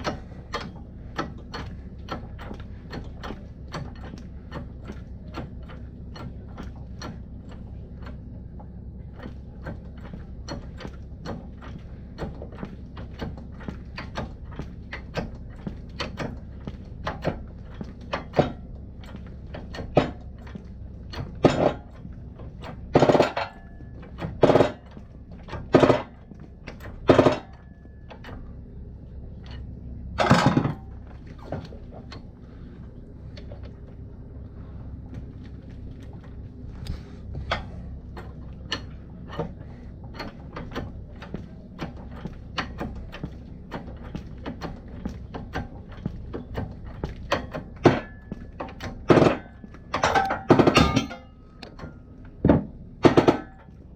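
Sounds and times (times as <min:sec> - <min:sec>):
light metal clicks and knocks: 0:00.0 - 0:28.5, 0:35.1 - 0:53.9.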